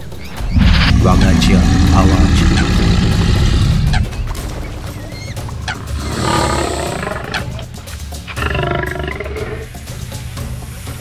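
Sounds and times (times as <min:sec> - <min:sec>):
tiger roaring and growling: 0:00.3 - 0:09.8.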